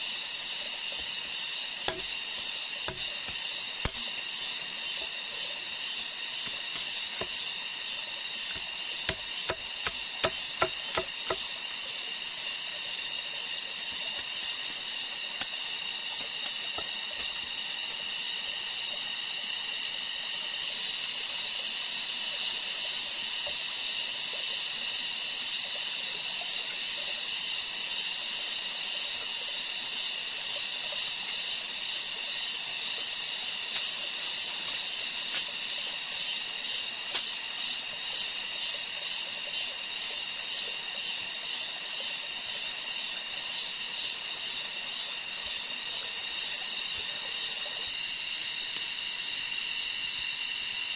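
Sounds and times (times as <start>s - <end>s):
rainforest insects shrilling: 0.0s - 50.9s.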